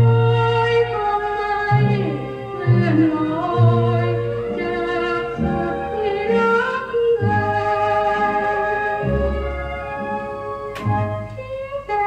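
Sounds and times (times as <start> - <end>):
old song from vinyl record: 0.0 - 12.0.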